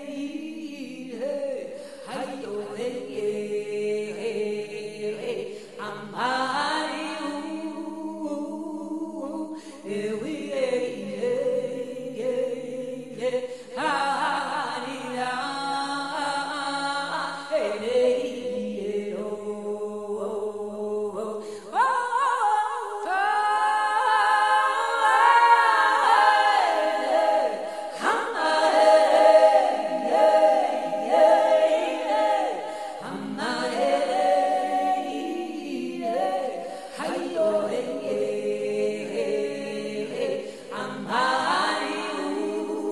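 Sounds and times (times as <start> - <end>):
voices singing without instruments: 0.0 - 42.9.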